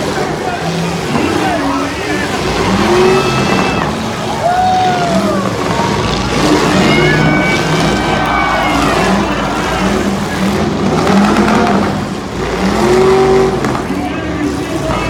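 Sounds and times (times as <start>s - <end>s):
car engines revving loudly: 0.0s - 15.0s.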